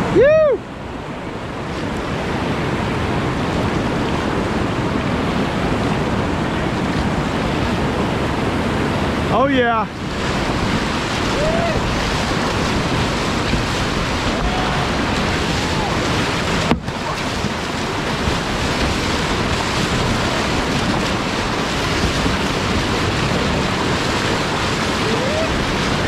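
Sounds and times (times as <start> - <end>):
whitewater rushing: 0.0 - 26.0
wind buffeting microphone: 0.0 - 26.0.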